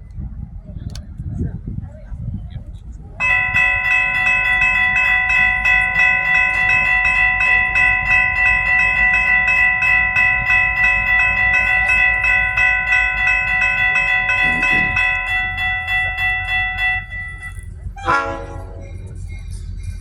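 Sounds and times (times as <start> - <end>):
low rumble of train: 0.0 - 20.0
railroad crossing bell ringing: 3.2 - 20.0.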